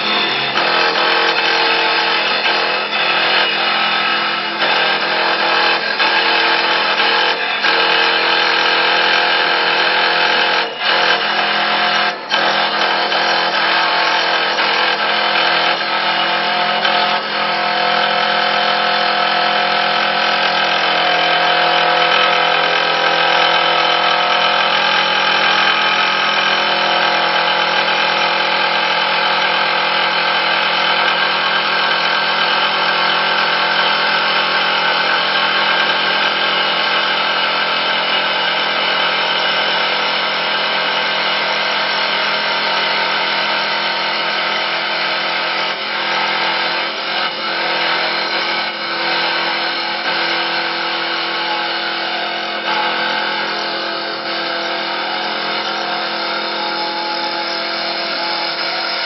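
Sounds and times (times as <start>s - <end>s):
wood lathe cutting: 0.0s - 59.0s.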